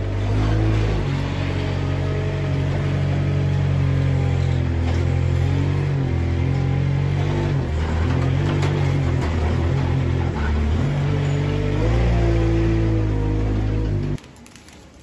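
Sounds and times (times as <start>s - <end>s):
diesel engine under load: 0.0s - 14.2s.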